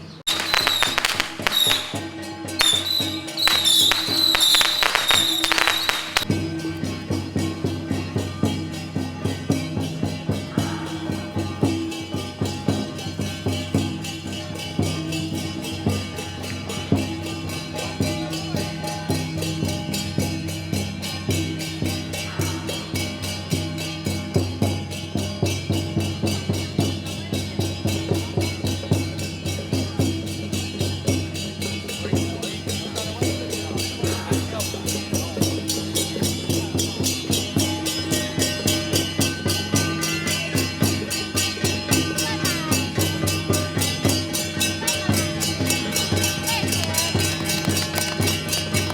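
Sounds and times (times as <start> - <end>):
wood block and drum beat: 0.0 - 48.9.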